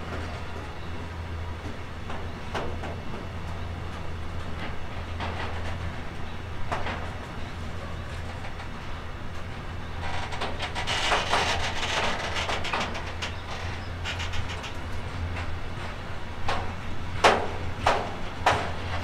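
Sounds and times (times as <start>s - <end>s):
train wheels clicking on rails: 1.6s - 19.0s.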